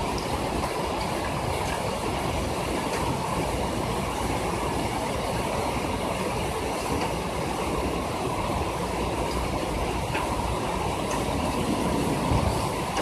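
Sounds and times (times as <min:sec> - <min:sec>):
rain pattering on ledge: 0:00.0 - 0:13.0.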